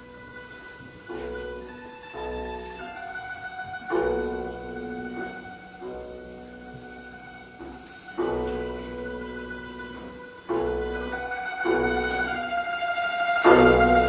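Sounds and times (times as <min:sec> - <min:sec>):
slow string-like chords: 0:00.0 - 0:14.0.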